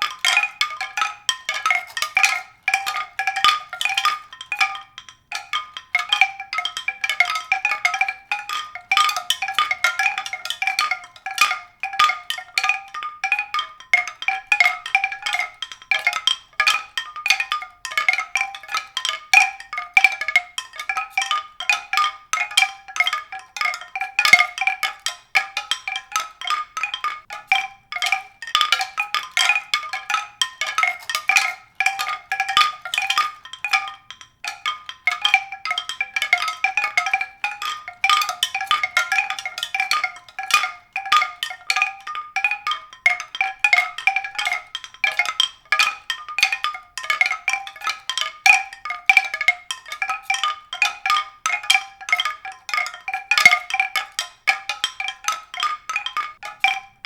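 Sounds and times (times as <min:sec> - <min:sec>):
mallet percussion notes: 0:00.0 - 0:57.0.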